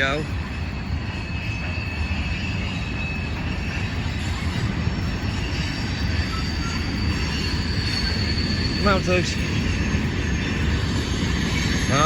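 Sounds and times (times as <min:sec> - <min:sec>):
freight train cars rumbling: 0:00.0 - 0:12.0
wheels squealing on rails: 0:00.0 - 0:12.0.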